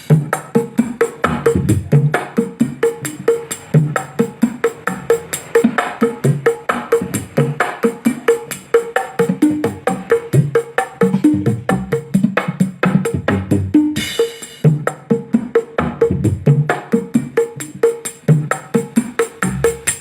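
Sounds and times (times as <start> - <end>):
music with fast drum beat: 0.0 - 20.0.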